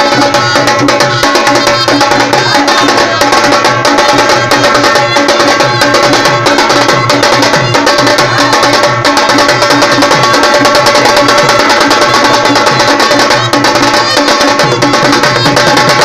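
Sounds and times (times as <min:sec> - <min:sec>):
drums beating fast: 0:00.0 - 0:16.0
wind instrument melody: 0:00.0 - 0:16.0.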